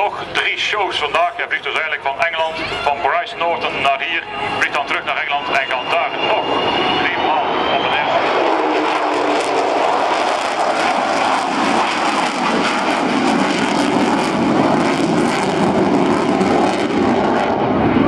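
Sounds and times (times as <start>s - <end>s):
crackling jet roar: 0.0s - 18.0s.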